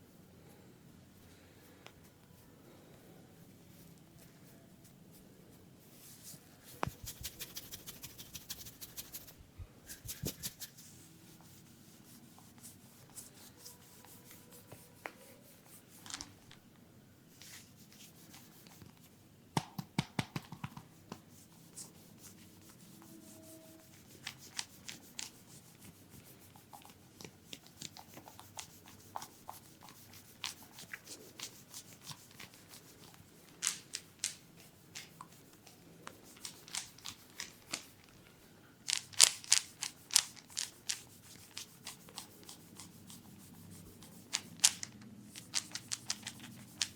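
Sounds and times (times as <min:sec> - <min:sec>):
hands rubbing scalp and hair: 0:03.6 - 0:16.3, 0:20.6 - 0:38.0, 0:38.9 - 0:46.9.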